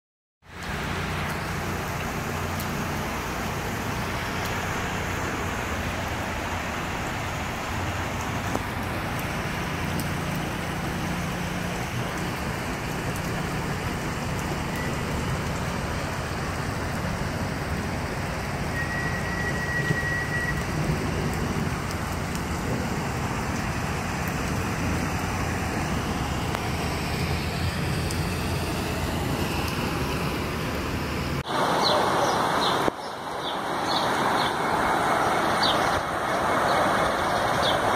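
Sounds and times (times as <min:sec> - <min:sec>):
heavy rain pouring on water: 0:00.4 - 0:37.9.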